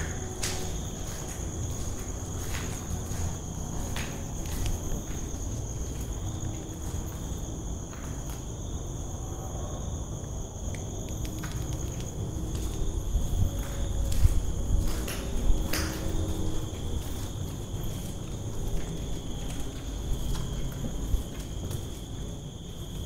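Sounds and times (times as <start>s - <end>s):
footsteps on hard floor: 0.0s - 7.3s, 11.4s - 22.9s
high-pitched insect chorus: 0.0s - 23.0s.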